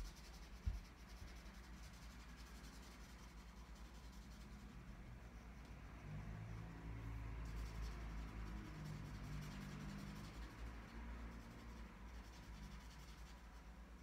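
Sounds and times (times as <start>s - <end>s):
marker scratching on paper: 0.0s - 14.0s.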